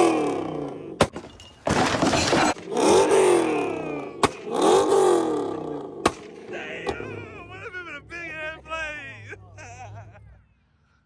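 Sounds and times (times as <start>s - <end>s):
car engine revving: 0.0s - 1.0s, 2.5s - 10.8s.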